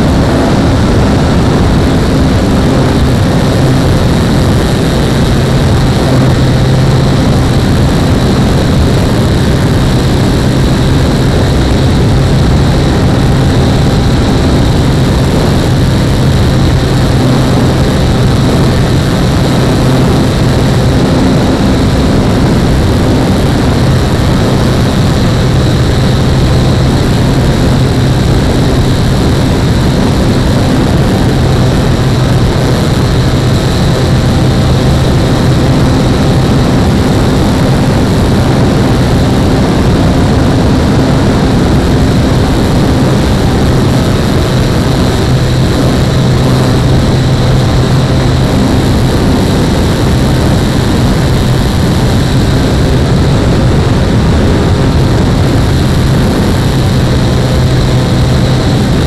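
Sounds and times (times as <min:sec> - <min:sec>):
model plane motor humming: 0:00.0 - 0:59.0
wind rush: 0:00.0 - 0:59.0.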